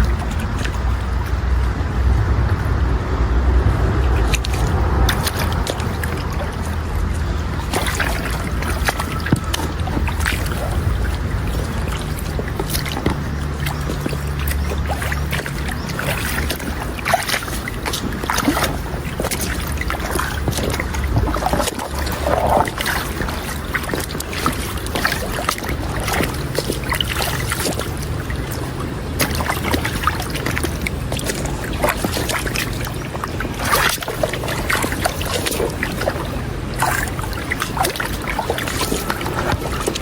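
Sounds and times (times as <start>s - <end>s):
steady low rumble: 0.0s - 40.0s
water splashing in mud: 0.0s - 40.0s.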